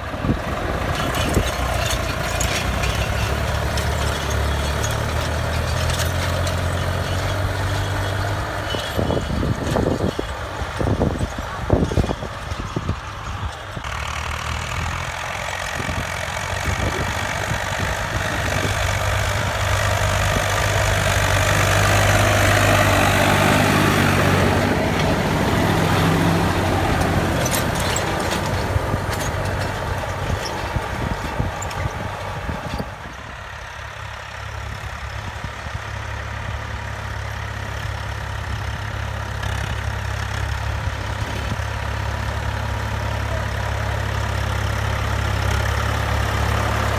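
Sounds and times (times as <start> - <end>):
tractor diesel engines under load: 0.0 - 46.9.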